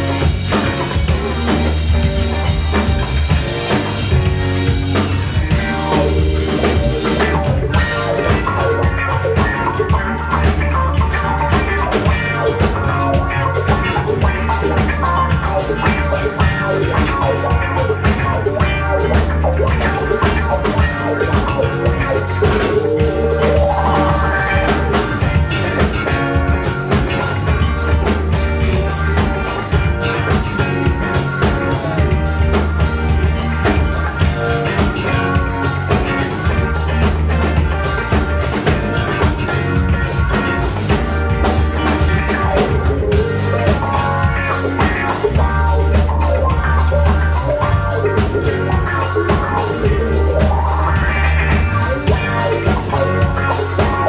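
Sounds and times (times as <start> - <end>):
bass notes: 0.0 - 54.0
drum kit steady beat: 0.0 - 54.0
guitar: 0.0 - 54.0.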